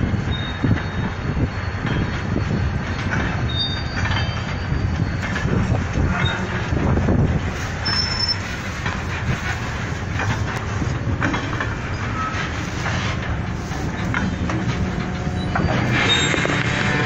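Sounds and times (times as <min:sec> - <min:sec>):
diesel locomotive engine hum: 0:00.0 - 0:17.0
high wheel squeals: 0:00.0 - 0:17.0
wagons rolling: 0:00.0 - 0:17.0
wheels clicking on rail joints: 0:00.0 - 0:17.0.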